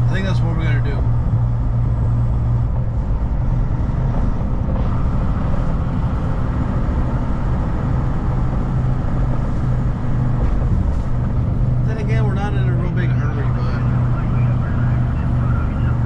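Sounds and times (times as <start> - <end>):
tire and road noise: 0.0 - 16.0
truck diesel engine drone: 0.0 - 16.0.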